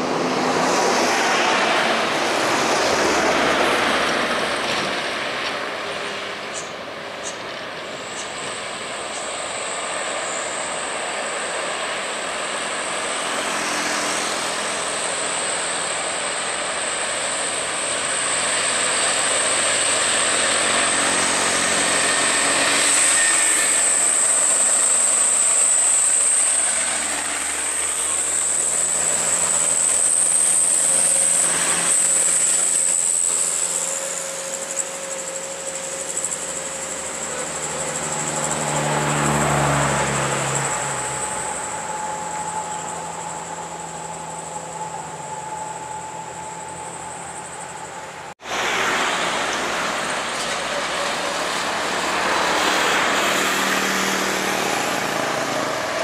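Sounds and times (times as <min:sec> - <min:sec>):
diesel trucks driving past: 0:00.0 - 0:56.0
steady high-pitched whine: 0:00.0 - 0:56.0.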